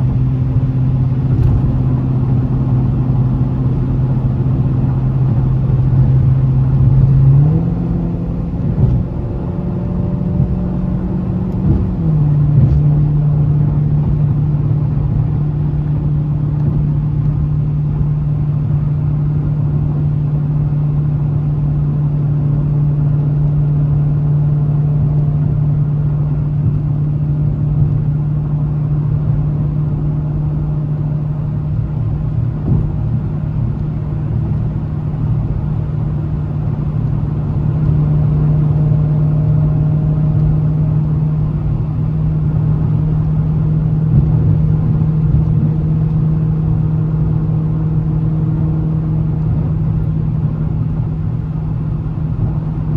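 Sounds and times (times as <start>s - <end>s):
car engine driving: 0.0s - 52.9s.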